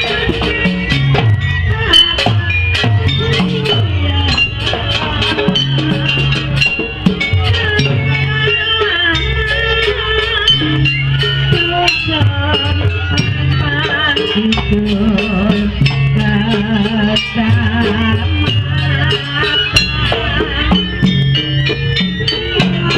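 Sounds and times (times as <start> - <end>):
drums: 0.0 - 22.9
rapid percussion strikes: 0.0 - 22.9
wavering melody line: 0.0 - 22.9.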